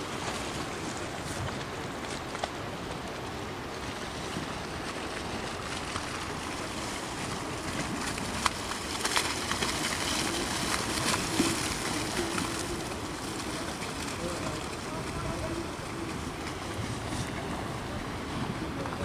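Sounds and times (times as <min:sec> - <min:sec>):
muddy river rushing: 0:00.0 - 0:19.0.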